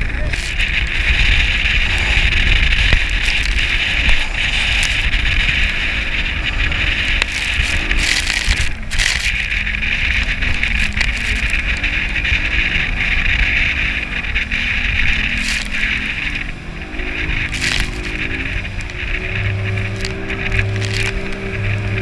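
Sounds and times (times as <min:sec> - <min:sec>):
outboard motor drone: 0:00.0 - 0:22.0
wind buffeting microphone: 0:00.0 - 0:22.0.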